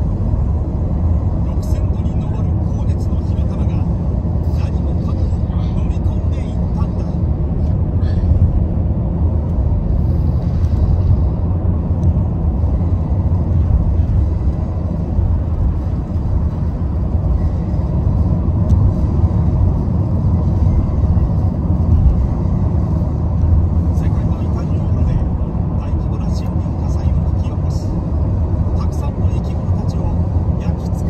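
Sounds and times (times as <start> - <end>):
car road rumble: 0.0 - 31.0.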